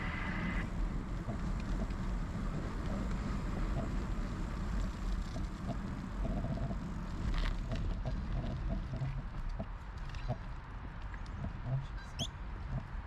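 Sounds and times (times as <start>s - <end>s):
bicycle tyre noise: 0.0s - 13.0s
wind rumbling on microphone: 0.0s - 13.0s
bike clicks and rattles: 1.1s - 12.9s.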